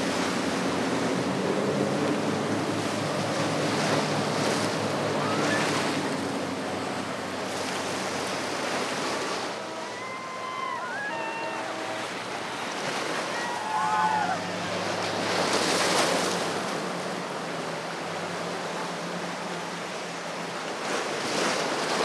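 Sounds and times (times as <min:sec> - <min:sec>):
outboard motors droning: 0:00.0 - 0:22.0
rushing waves and spray: 0:00.0 - 0:22.0
wind: 0:00.0 - 0:22.0.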